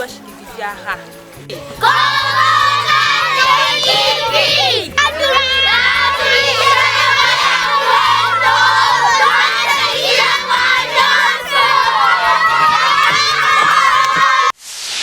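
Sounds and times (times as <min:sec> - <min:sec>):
music with stepping bass line: 0:01.4 - 0:14.4
children shouting and singing: 0:01.5 - 0:14.6.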